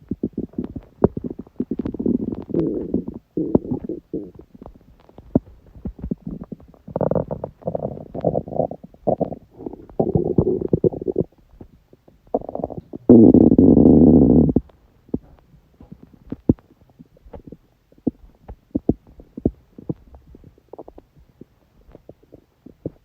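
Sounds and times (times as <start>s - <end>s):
stomach growling and gurgling: 0.0s - 23.0s.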